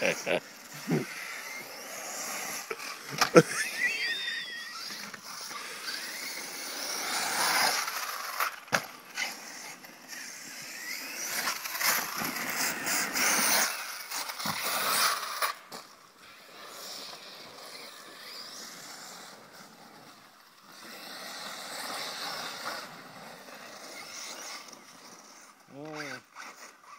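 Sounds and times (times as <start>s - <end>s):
rc car motor whine: 0.0s - 26.9s.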